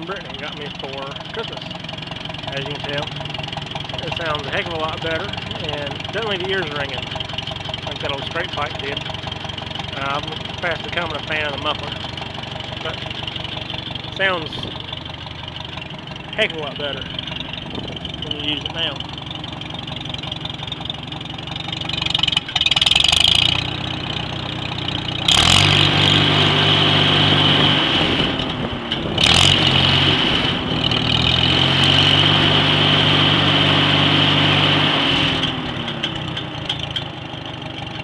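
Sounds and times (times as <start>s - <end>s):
tractor engine idling and revving: 0.0s - 38.0s.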